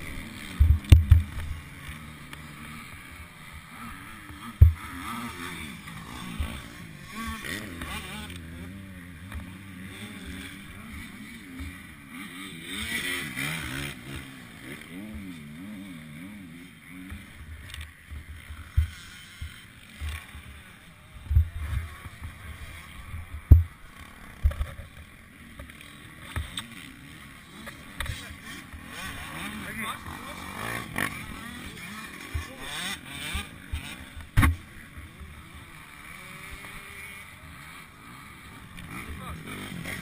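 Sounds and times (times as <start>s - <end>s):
distant motocross engines revving: 0.0s - 40.0s.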